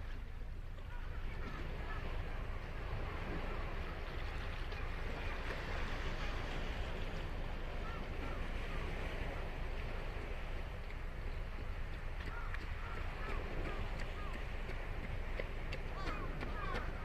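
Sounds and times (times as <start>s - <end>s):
ocean surf washing on beach: 0.0s - 17.0s.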